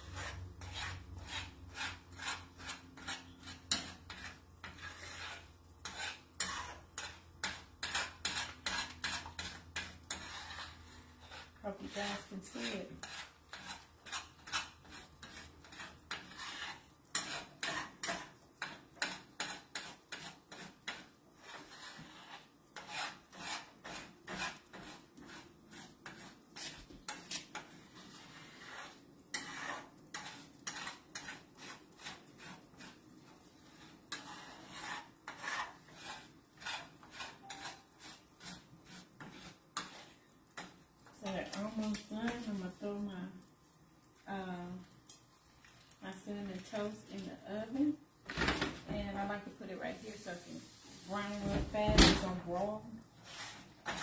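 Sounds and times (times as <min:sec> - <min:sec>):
utensil scraping eggs in a skillet: 0:00.0 - 0:54.0.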